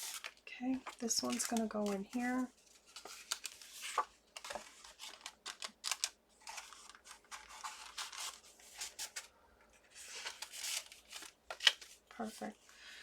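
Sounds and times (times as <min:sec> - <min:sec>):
paper rustling and scraping: 0:00.0 - 0:12.6.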